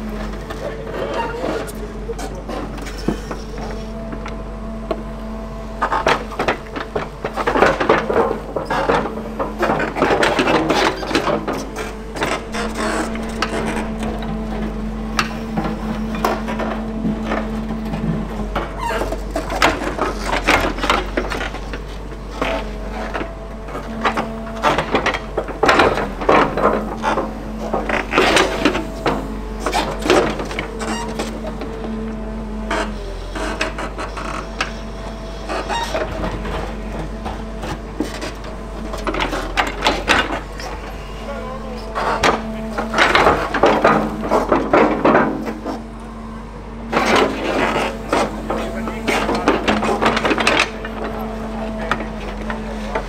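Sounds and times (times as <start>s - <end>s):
excavator engine running: 0.0s - 53.0s
soil and stones clattering into truck bed: 5.8s - 46.0s, 46.9s - 53.0s.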